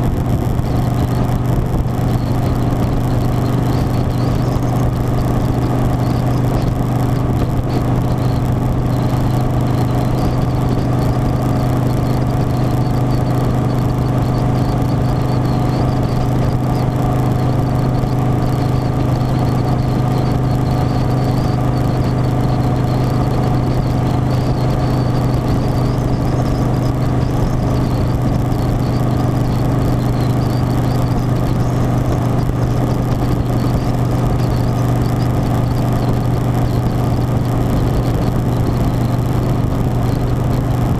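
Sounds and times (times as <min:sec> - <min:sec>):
motorcycle engine cruising drone: 0:00.0 - 0:40.9.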